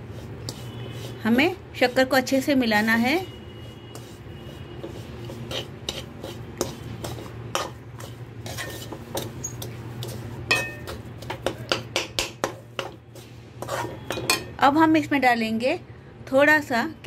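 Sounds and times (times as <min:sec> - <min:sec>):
metal spatula scraping a pan: 0:00.0 - 0:14.6.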